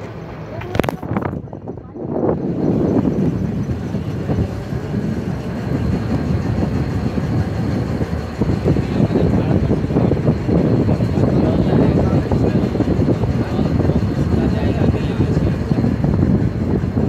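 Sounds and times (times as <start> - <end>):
motorboat engine rumble: 0.0 - 17.0
rushing air and water: 0.0 - 17.0.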